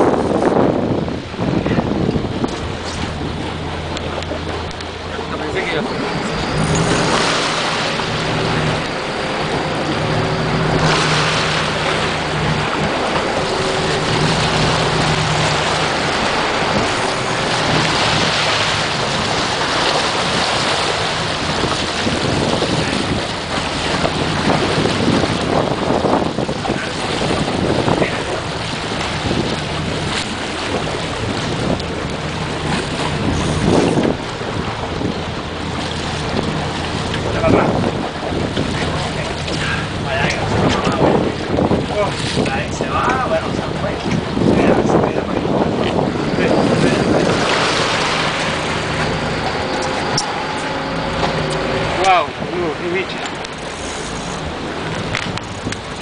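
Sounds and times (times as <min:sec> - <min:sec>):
boat engine humming: 0:00.0 - 0:56.0
water slapping along hull: 0:00.0 - 0:56.0
wind buffeting microphone: 0:00.0 - 0:56.0.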